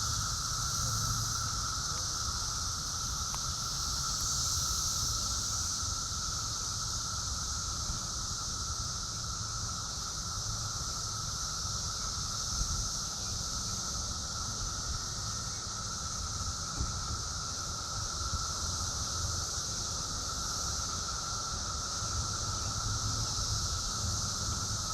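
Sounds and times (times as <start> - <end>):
cicadas buzzing: 0.0 - 24.9.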